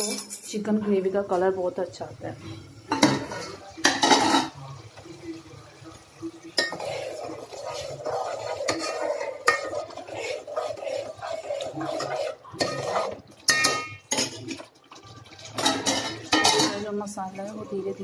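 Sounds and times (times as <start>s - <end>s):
spoon stirring and scraping pot: 0.0s - 0.7s, 2.4s - 18.0s.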